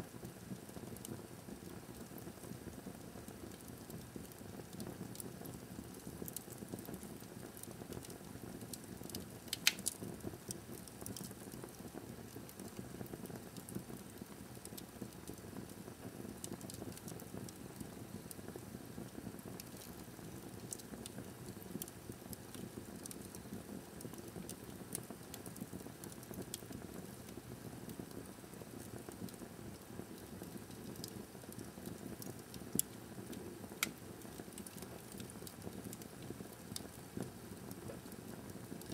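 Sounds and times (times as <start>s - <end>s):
fire crackling: 0.1s - 38.9s
fire burning: 0.2s - 38.9s.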